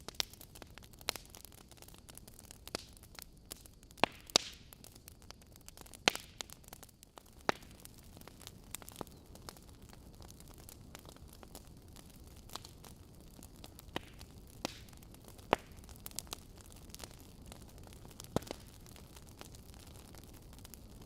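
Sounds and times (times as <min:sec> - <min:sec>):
low steady hiss of fire: 0:00.0 - 0:21.0
wood fire crackling and popping: 0:00.0 - 0:21.0.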